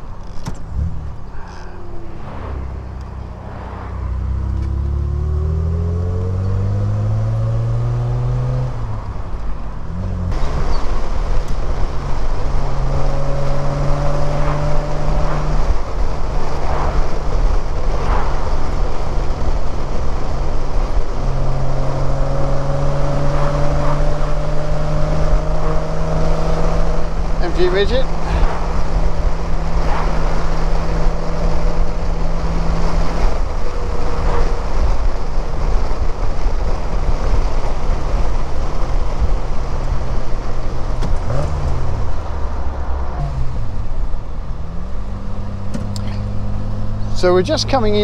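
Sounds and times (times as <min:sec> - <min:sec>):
car engine accelerating: 0:00.0 - 0:48.0
wind and tyre noise: 0:00.0 - 0:48.0.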